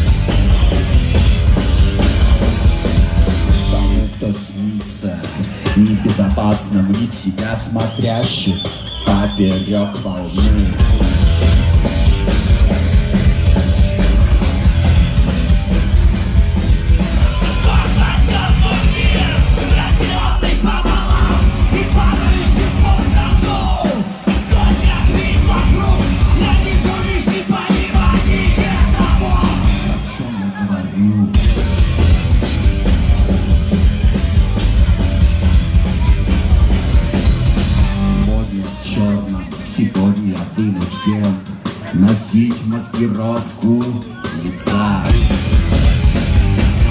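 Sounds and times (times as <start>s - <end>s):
driving drum beat: 0.0s - 46.9s
rock band playing live: 0.0s - 46.9s.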